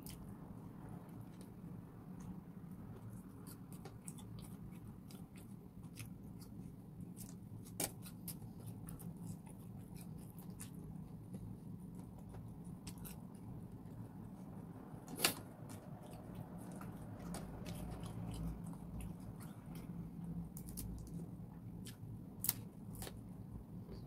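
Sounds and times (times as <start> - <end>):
person chewing food: 0.0 - 23.2
low steady hum: 0.0 - 24.0.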